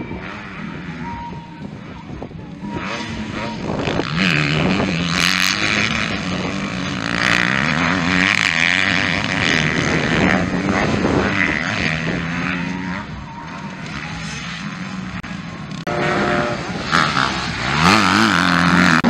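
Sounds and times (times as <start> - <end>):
motocross engines revving: 0.0 - 19.0.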